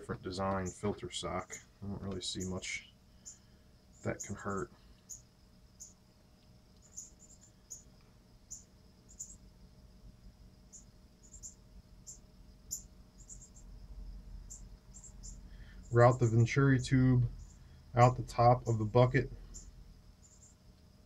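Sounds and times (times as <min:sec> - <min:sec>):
crickets chirping: 0:00.0 - 0:21.0
faint steady hum: 0:00.0 - 0:21.0.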